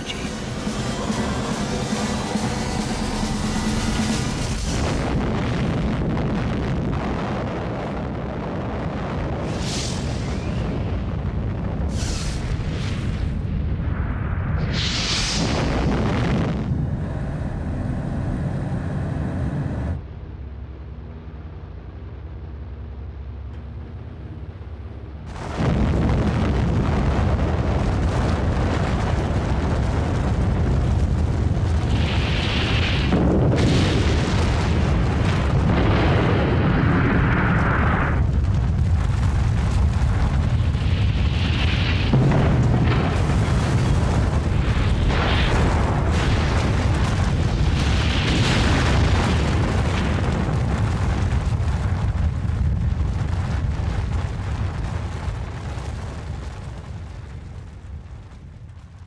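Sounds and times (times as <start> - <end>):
loud low rumble: 0.0 - 11.9, 13.1 - 58.8
explosion blast: 0.0 - 19.0, 25.3 - 57.9.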